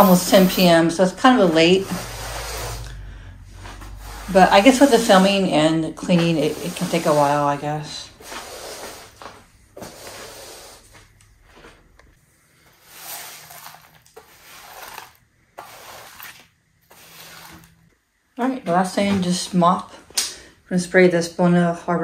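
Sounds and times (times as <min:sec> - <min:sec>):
broom sweeping wooden floor: 0:00.0 - 0:17.9.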